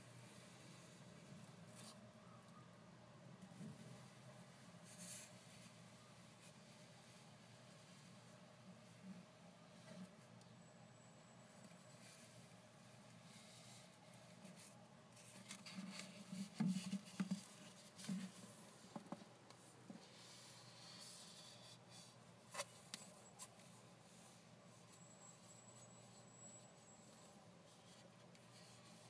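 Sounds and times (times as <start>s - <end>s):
soft rustling and rubbing: 3.5s - 10.3s, 11.8s - 29.0s.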